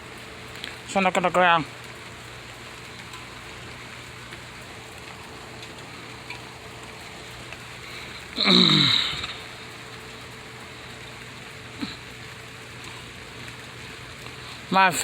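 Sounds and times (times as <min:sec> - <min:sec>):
rain falling: 0:00.0 - 0:15.0
faint drips: 0:00.1 - 0:15.0.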